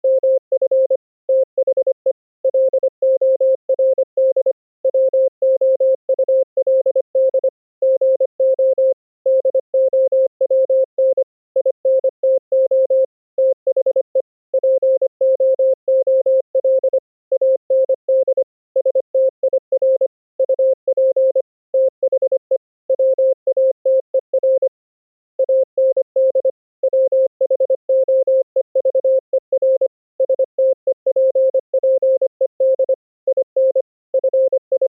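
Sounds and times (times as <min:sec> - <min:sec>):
morse code tone: 0:00.0 - 0:24.7, 0:25.4 - 0:34.9.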